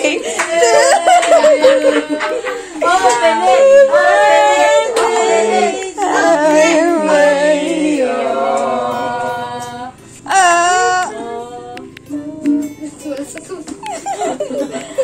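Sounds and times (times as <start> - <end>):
group of people singing together: 0.0 - 15.0.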